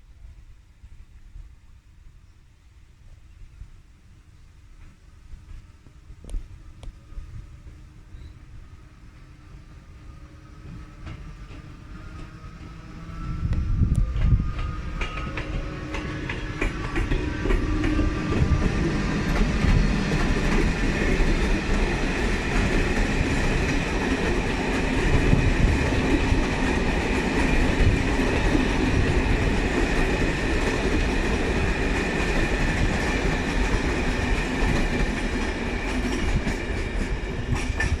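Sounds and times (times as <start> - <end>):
train wheels rumbling on rail: 4.6 - 38.0.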